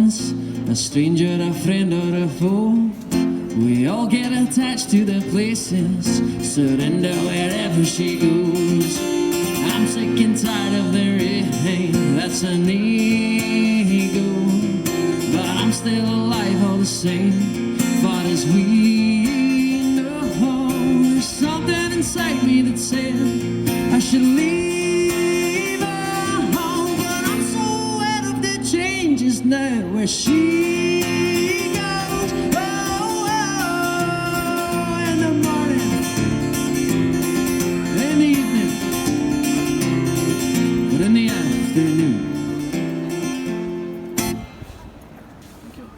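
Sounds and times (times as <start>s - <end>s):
acoustic guitar strumming: 0.0s - 45.1s.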